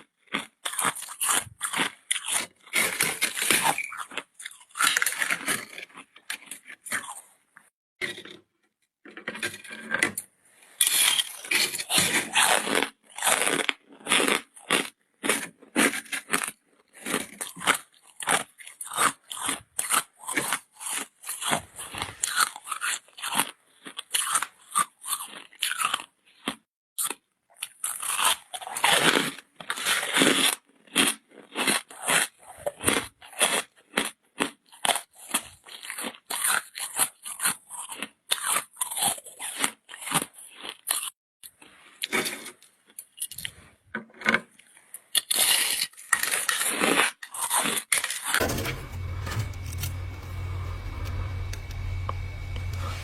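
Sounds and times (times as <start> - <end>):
ice being chewed: 0.0 - 7.4, 10.8 - 43.8, 44.4 - 48.4.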